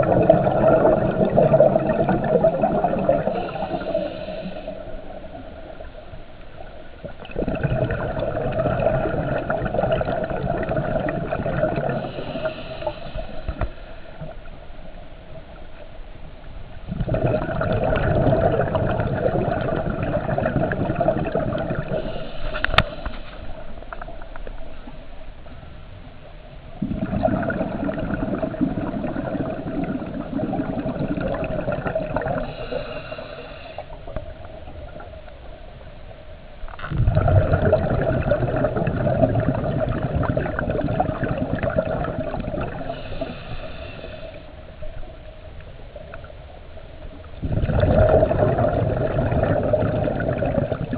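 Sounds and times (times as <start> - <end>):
exhaled bubbles rumbling underwater: 0.0 - 50.9.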